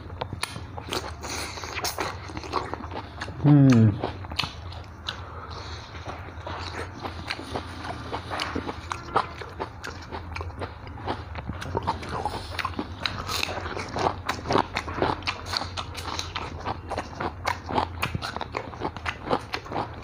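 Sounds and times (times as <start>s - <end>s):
low steady hum: 0.0s - 20.0s
man chewing and lip-smacking: 0.0s - 20.0s.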